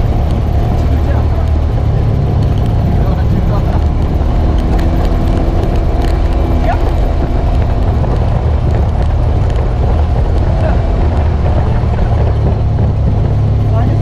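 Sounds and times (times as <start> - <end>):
off-road vehicle engine drone: 0.0 - 14.0
tyre and chassis rumble: 0.0 - 14.0.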